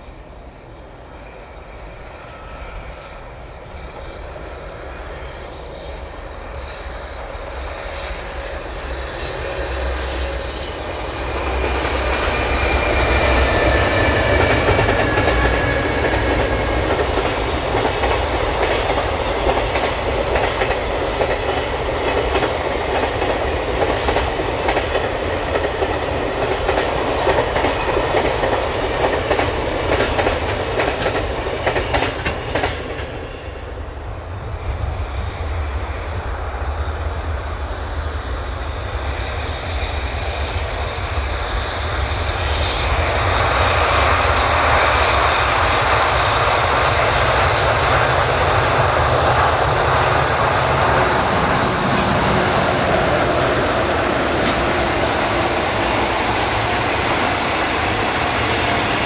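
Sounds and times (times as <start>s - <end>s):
distant train rumble: 0.0s - 59.0s
train wheels clickety-clack: 3.8s - 59.0s.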